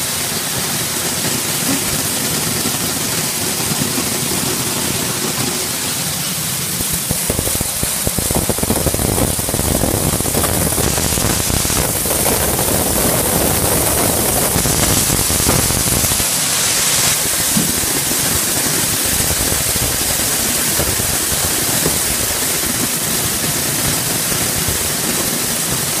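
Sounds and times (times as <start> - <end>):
sorting machine hissing: 0.0 - 26.0.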